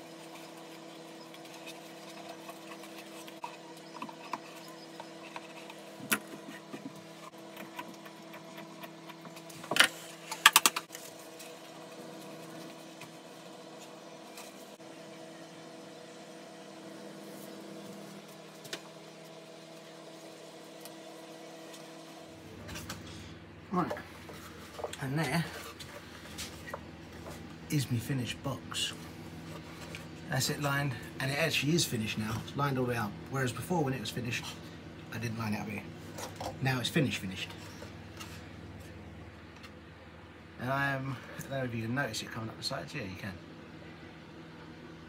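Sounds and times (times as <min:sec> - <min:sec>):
machine humming: 0:00.0 - 0:45.0.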